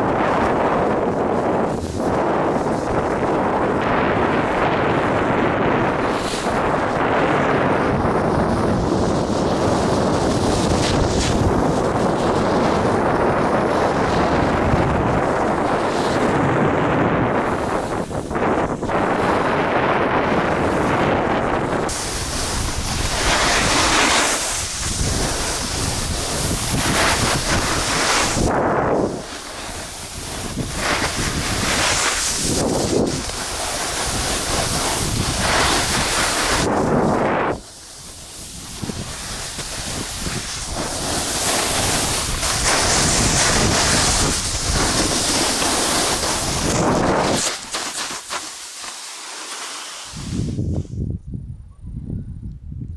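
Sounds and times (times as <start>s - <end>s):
wind buffeting microphone: 0.0s - 48.5s, 50.0s - 52.9s
snowboard edges scraping snow: 0.0s - 50.9s.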